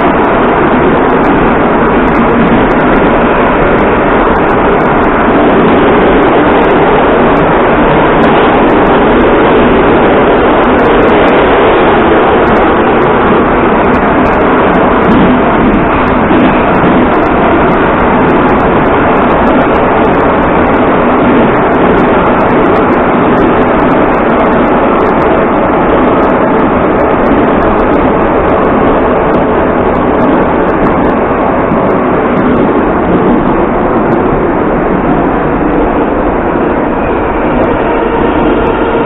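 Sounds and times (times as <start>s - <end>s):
metro train wheels roaring: 0.0s - 39.0s.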